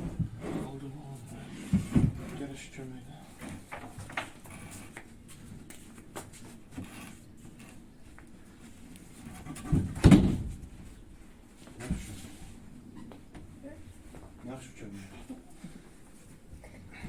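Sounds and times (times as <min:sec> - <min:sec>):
faint knocks and rustling: 0:00.0 - 0:02.6, 0:03.3 - 0:14.6.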